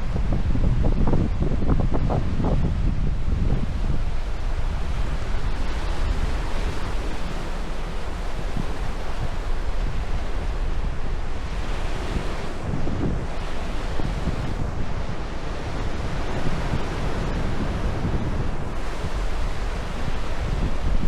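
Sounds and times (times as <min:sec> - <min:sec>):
wind buffeting microphone: 0:00.0 - 0:21.0
sea waves breaking on beach: 0:02.8 - 0:21.0.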